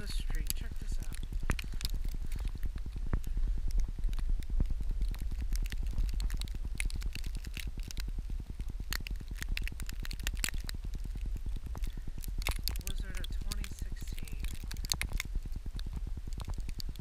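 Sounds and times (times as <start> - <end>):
rapid crackling and scraping: 0.0 - 17.0
wind rumbling on microphone: 0.0 - 17.0.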